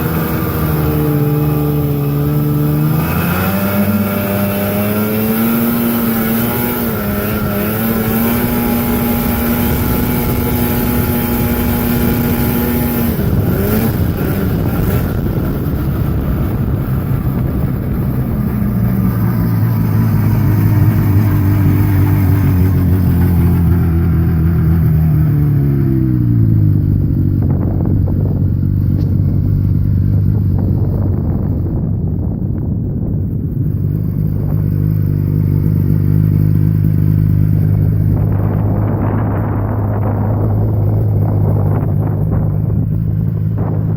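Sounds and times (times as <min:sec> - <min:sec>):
snowmobile engine running: 0:00.0 - 0:43.9.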